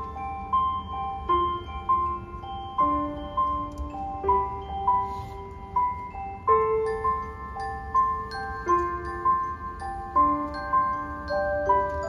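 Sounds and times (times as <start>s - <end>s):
mallet percussion chiming melody: 0.0s - 12.0s.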